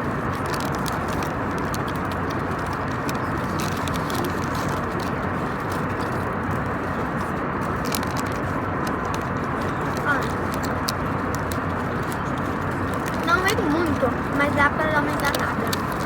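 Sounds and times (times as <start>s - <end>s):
airliner cabin engine roar: 0.0s - 16.0s.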